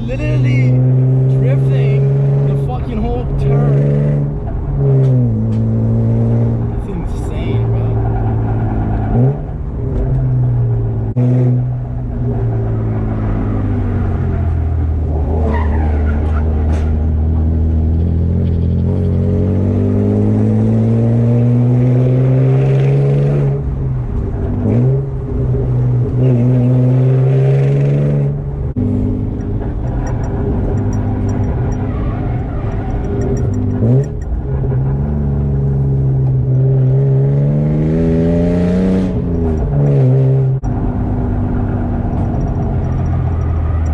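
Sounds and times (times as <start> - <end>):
car engine accelerating through gears: 0.0 - 43.9.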